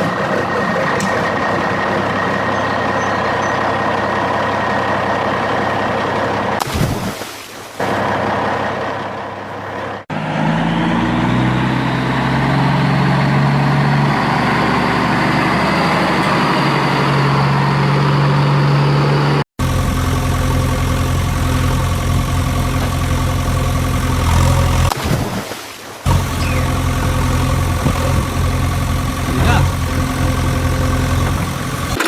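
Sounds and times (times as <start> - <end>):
vehicle engine idling: 0.0 - 6.6, 7.8 - 25.0, 26.1 - 32.0.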